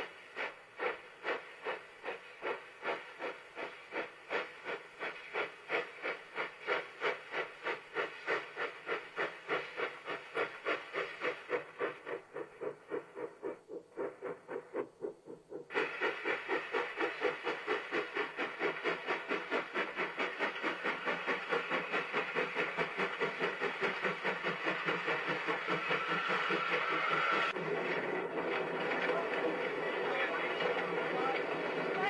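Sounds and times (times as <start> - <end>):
hiss of steam: 0.0 - 14.9, 15.5 - 32.0
steam locomotive chuffing: 0.0 - 32.0.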